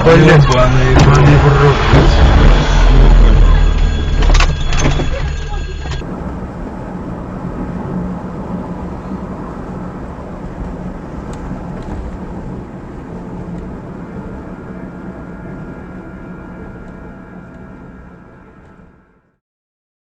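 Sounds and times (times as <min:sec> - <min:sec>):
engine hum: 0:00.0 - 0:19.3
road rumble: 0:00.0 - 0:19.3.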